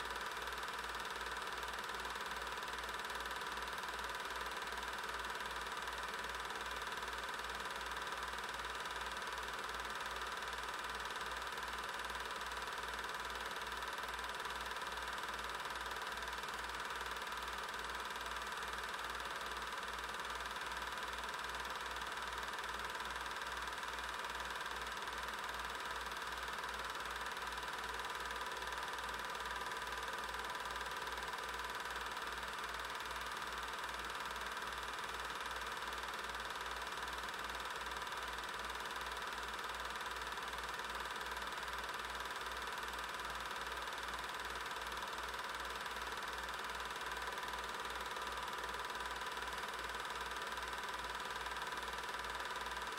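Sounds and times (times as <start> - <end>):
film projector running: 0.0 - 52.9.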